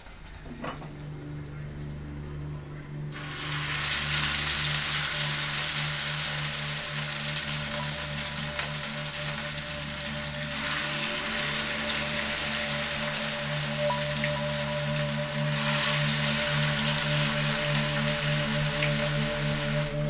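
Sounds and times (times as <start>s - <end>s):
fish sizzling in hot oil: 3.1s - 20.0s.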